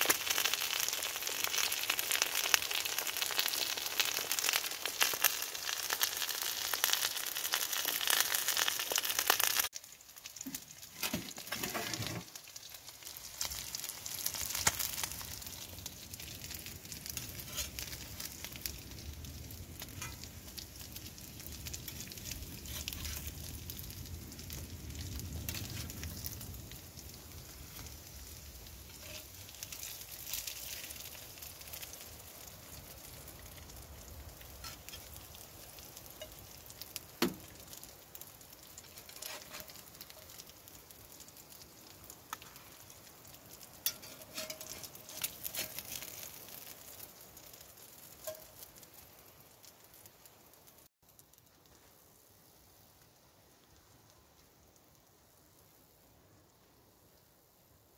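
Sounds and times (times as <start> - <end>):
food sizzling in a skillet: 0.0 - 57.9.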